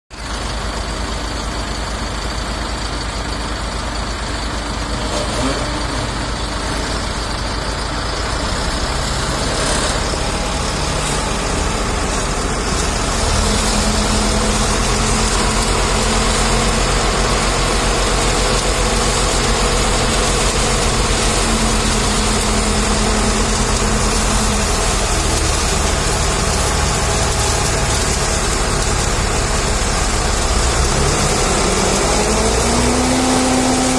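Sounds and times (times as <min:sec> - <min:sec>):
diesel engines running: 0:00.2 - 0:33.9.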